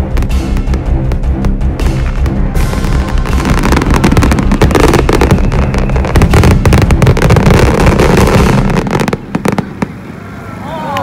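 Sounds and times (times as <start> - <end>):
fireworks bangs and crackles: 0.0 - 10.2.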